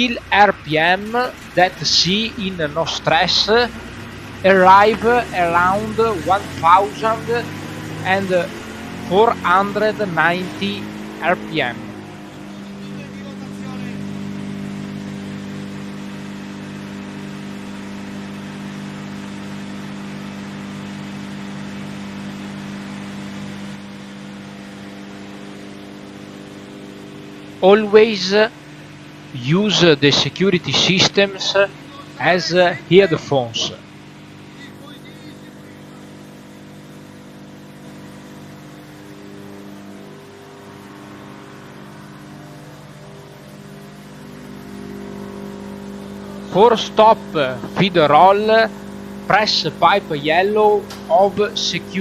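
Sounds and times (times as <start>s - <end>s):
tractor engine humming: 0.0s - 52.0s
woodchipper running: 0.0s - 52.0s.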